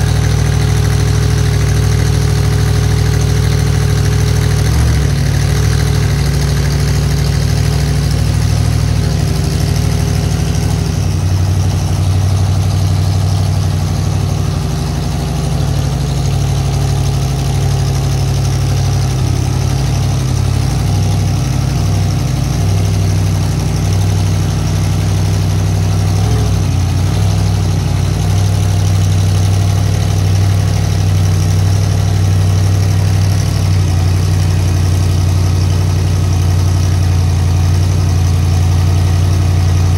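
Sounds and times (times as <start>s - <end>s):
monster truck engine idling: 0.0s - 39.9s.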